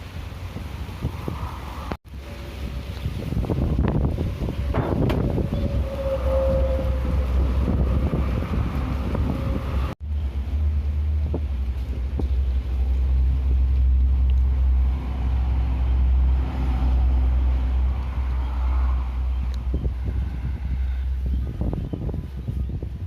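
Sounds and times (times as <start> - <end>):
wind buffeting the microphone: 0.4 - 10.0, 11.1 - 23.0.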